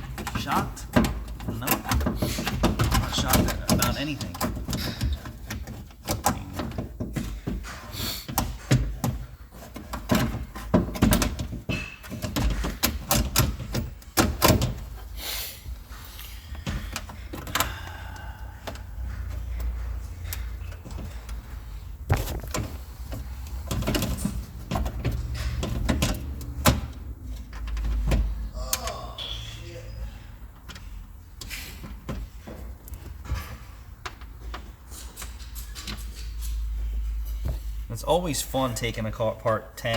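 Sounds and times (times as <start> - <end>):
tools and parts clicking and rattling: 0.0 - 15.1, 16.5 - 28.9, 30.5 - 37.9.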